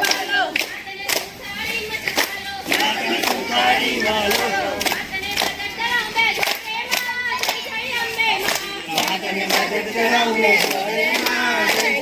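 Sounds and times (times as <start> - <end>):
hand claps: 0.0 - 1.4, 2.0 - 12.0
group of voices singing: 0.0 - 12.0.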